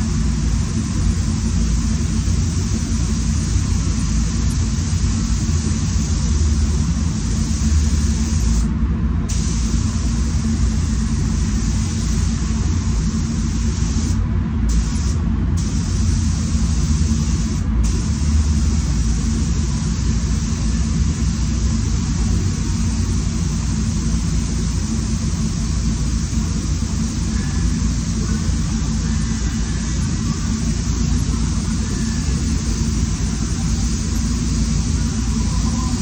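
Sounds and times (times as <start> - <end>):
spray gun hissing: 0.0 - 8.7, 9.3 - 36.0
spray booth fans rumbling: 0.0 - 36.0.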